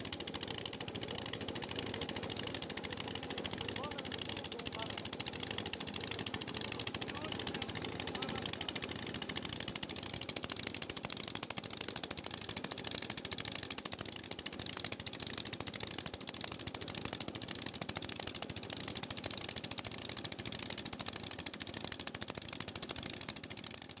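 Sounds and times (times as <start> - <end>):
boat diesel engine clatter: 0.0 - 23.8.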